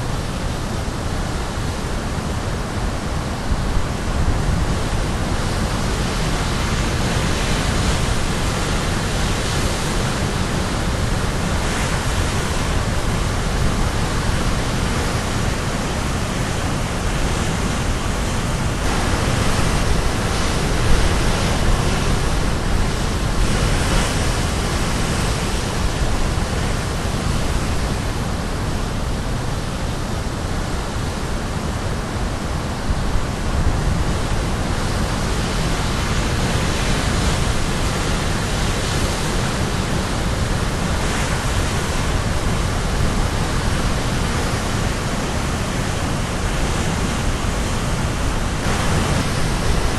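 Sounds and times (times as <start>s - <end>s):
waves breaking on shore: 0.0s - 49.9s.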